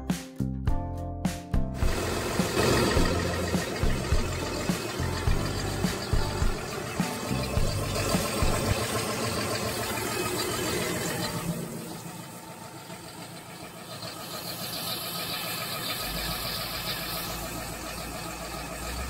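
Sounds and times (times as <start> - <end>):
diesel engine running: 1.6 - 19.0.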